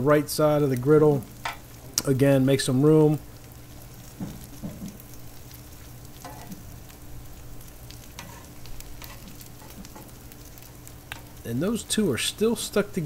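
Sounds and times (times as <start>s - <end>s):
food sizzling on a griddle: 0.1s - 13.0s.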